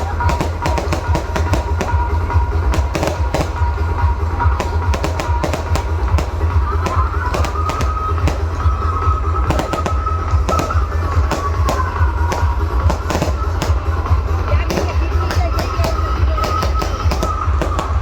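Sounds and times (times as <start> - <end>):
fireworks and firecrackers banging: 0.0 - 18.0
loud music with heavy bass: 0.0 - 18.0.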